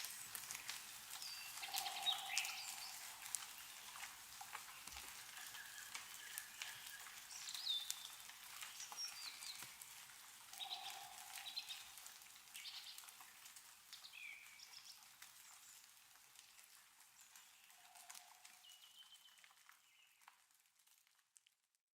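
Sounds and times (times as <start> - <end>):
small birds chirping: 0.0 - 20.2
meltwater dripping from trees: 0.0 - 21.8.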